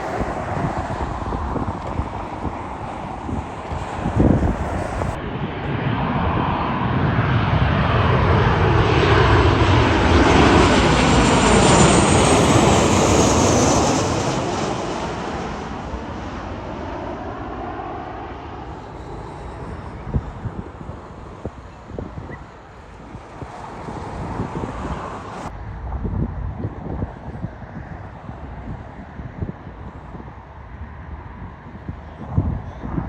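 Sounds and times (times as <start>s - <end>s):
airliner engines passing: 0.0s - 33.0s
high engine whine: 0.0s - 33.0s.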